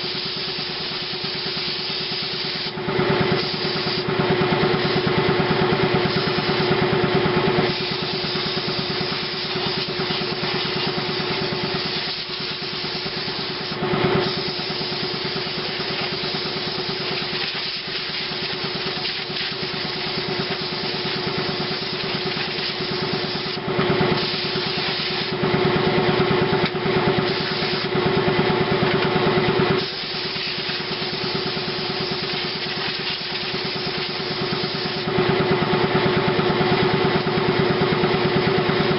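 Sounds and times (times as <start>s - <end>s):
compressed air hissing from nozzle: 0.0s - 25.4s, 27.2s - 28.0s, 29.8s - 35.1s
air compressor humming: 0.0s - 38.9s.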